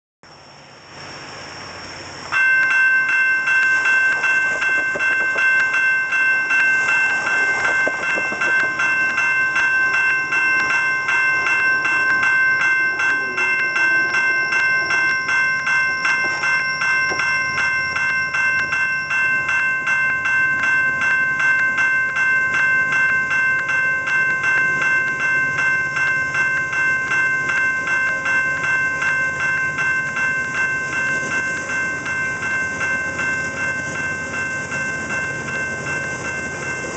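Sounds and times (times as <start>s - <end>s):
crossing warning bell ringing: 0.3s - 36.9s
freight train passing: 0.3s - 36.9s.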